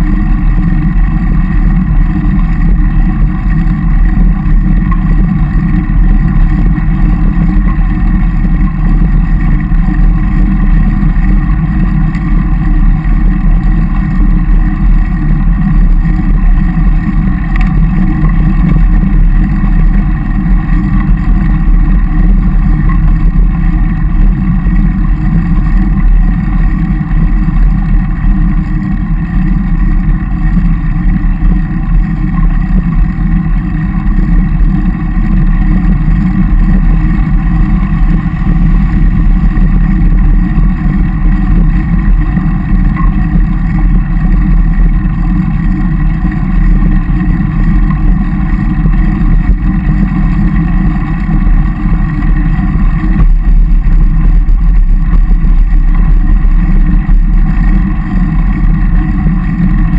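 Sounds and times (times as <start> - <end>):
road rumble: 0.0 - 59.9.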